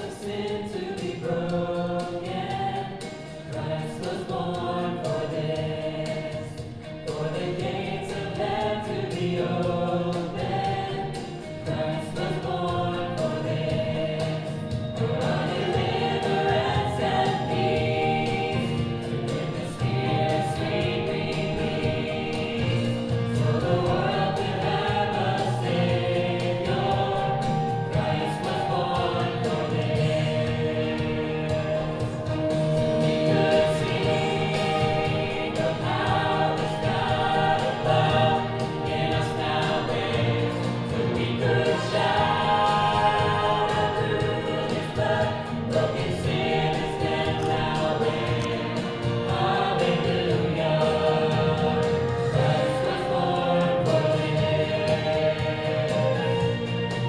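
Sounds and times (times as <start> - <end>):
church choir singing a hymn: 0.0 - 57.0
musical accompaniment: 0.0 - 57.0.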